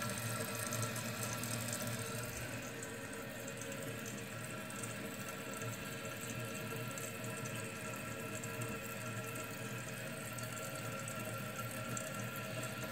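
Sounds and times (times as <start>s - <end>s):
toilet tank refilling: 0.0s - 12.9s.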